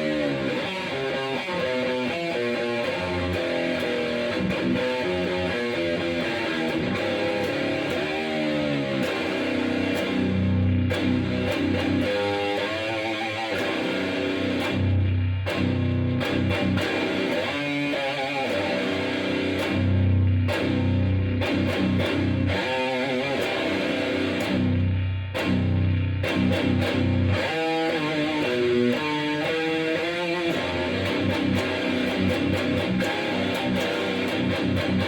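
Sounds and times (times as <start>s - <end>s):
heavy electric guitar riff: 0.0s - 35.0s.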